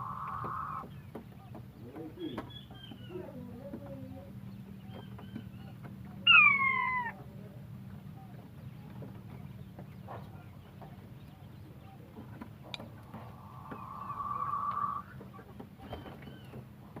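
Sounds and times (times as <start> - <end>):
quail peeping and clucking: 0.0 - 17.0.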